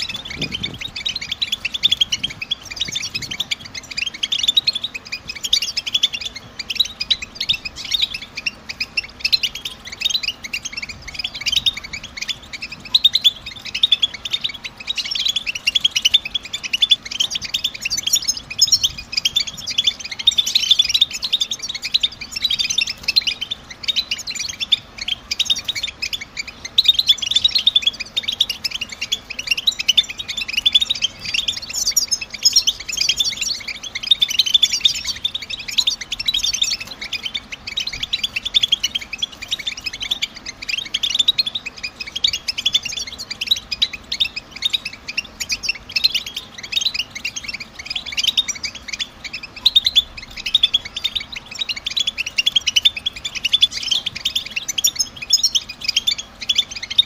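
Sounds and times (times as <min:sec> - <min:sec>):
goldfinch twittering chirps: 0:00.0 - 0:57.0.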